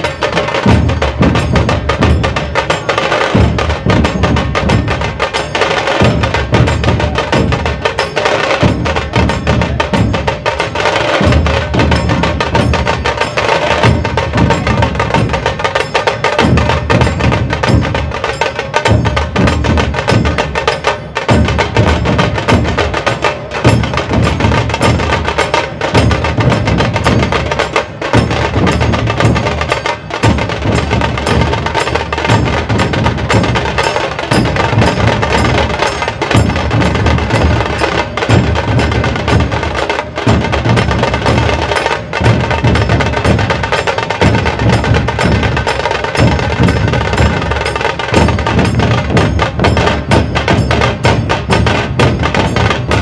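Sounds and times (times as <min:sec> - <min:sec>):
fast sharp drum strokes: 0:00.0 - 0:53.0.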